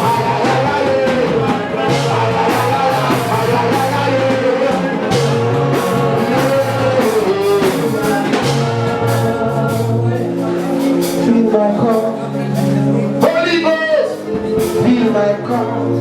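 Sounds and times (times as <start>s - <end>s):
bass notes: 0.0s - 13.6s
guitar: 0.0s - 16.0s
music with steady beat: 0.0s - 16.0s
person singing: 0.0s - 16.0s.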